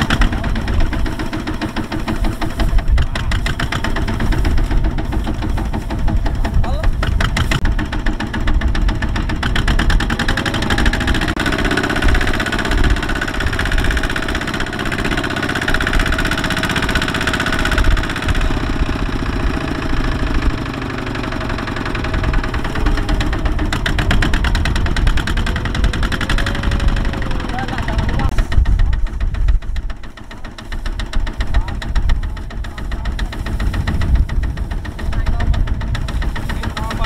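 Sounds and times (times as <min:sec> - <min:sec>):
diesel tractor engine running: 0:00.0 - 0:37.0.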